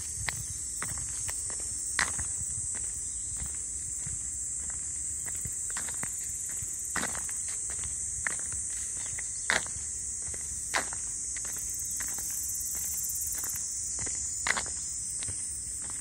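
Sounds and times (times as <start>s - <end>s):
footsteps: 0.0s - 16.0s
insects chorus: 0.0s - 16.0s.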